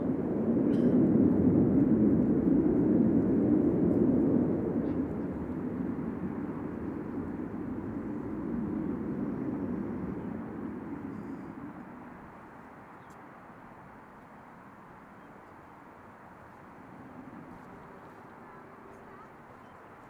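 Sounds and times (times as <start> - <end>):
jet aircraft rumble: 0.0 - 20.0.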